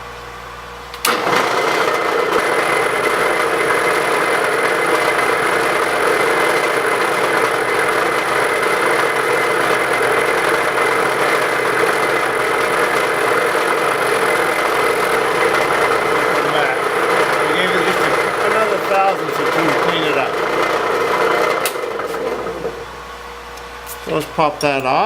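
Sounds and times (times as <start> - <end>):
milling machine humming: 1.0 - 23.7.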